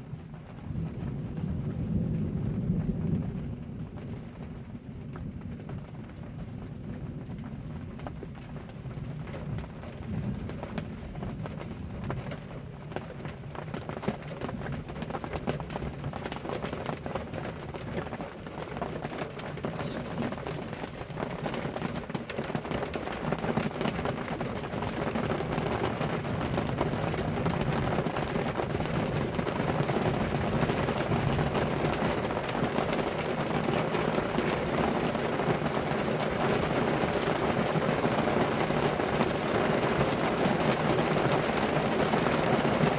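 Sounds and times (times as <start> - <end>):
heavy rain pouring: 5.7 - 42.9.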